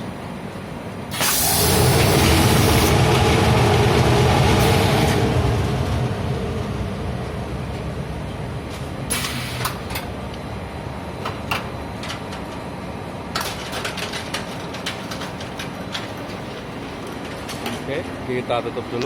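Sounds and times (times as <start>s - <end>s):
factory machinery running: 0.0s - 19.0s.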